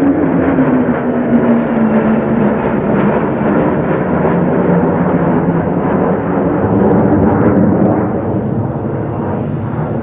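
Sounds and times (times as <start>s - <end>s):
fighter jets passing overhead: 0.0s - 10.0s.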